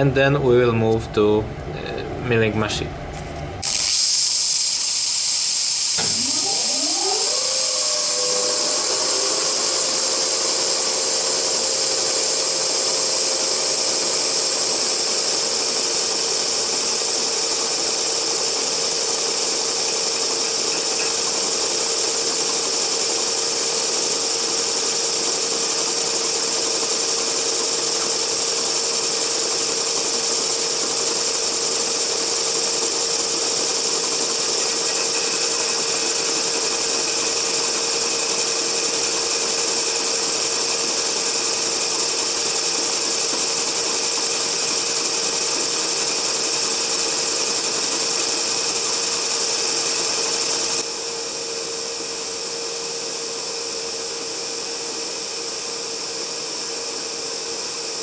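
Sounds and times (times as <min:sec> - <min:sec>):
loud hiss: 0:03.6 - 0:56.6
lathe motor whine: 0:03.6 - 0:58.0.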